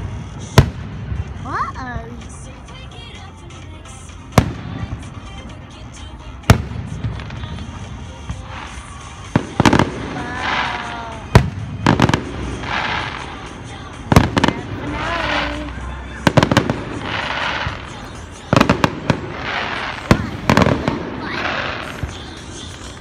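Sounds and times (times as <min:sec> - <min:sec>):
fireworks exploding: 0:00.0 - 0:02.8, 0:03.8 - 0:23.0
fireworks crackling: 0:00.0 - 0:23.0.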